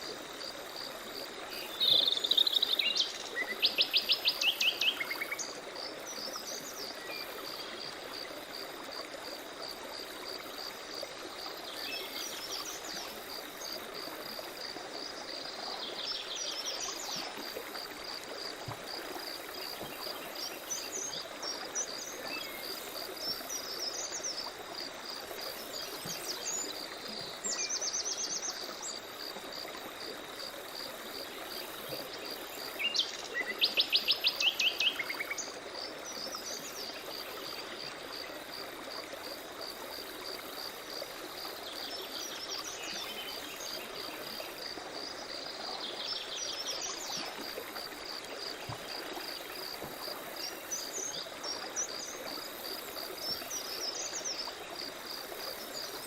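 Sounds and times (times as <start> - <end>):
forest stream running: 0.0 - 56.0.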